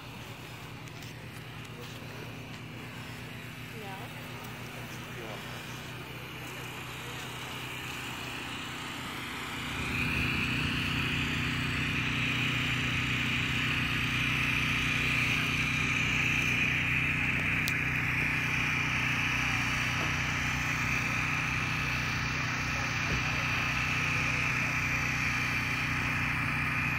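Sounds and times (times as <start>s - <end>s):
engine hum: 0.0s - 26.9s.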